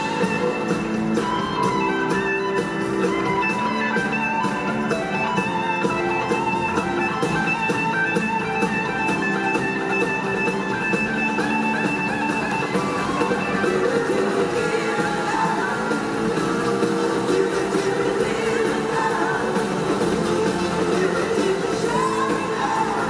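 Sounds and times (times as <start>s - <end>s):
drums keeping steady beat: 0.0s - 23.0s
electric guitars: 0.0s - 23.0s.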